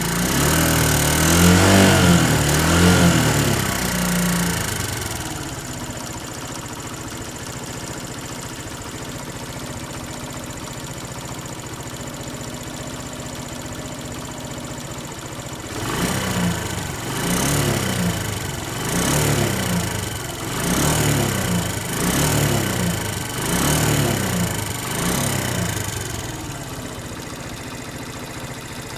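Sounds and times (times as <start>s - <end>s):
engine knock: 0.0s - 28.9s
motorcycle engine idling and revving: 0.0s - 28.9s.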